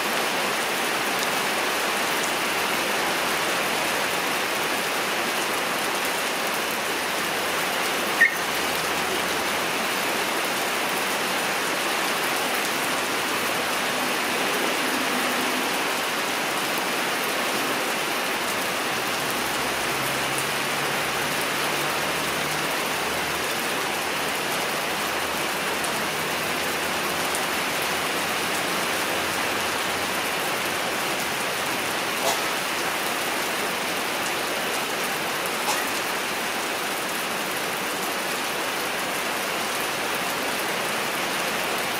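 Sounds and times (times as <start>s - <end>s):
rain-like hiss: 0.0s - 41.9s.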